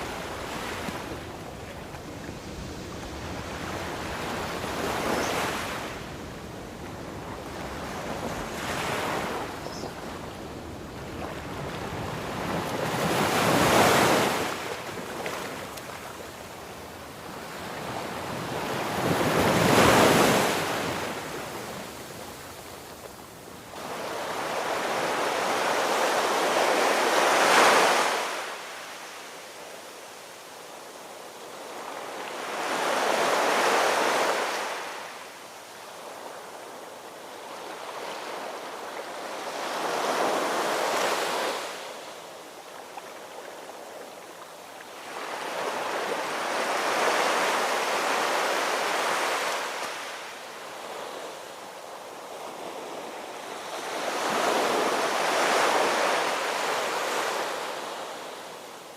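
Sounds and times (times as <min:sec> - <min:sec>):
ocean waves rolling in: 0:00.0 - 0:58.9.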